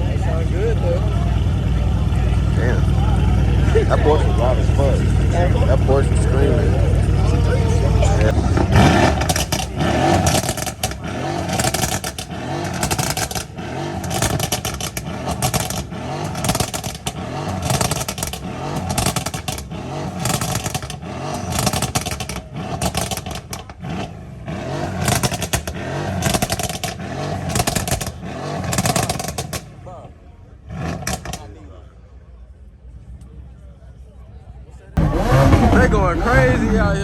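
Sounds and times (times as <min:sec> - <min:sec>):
exhaust crackle: 0:00.0 - 0:32.1, 0:35.0 - 0:37.0
car engines revving: 0:00.0 - 0:37.0.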